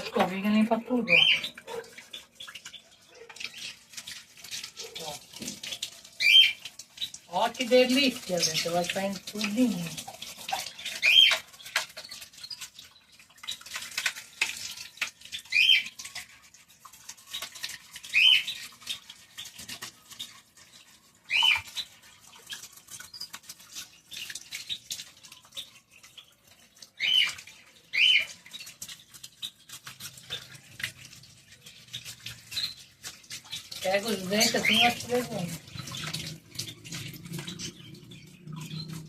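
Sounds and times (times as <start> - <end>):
brush scrubbing: 0.0 - 39.0.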